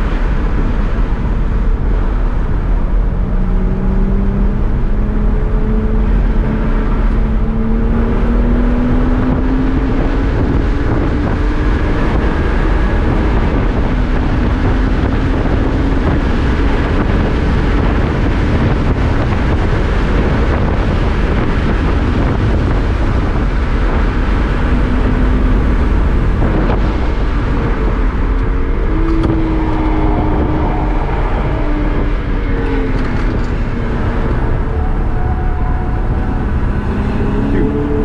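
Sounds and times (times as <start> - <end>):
car engine under load: 0.0 - 38.0
tyre and wind noise: 0.0 - 38.0.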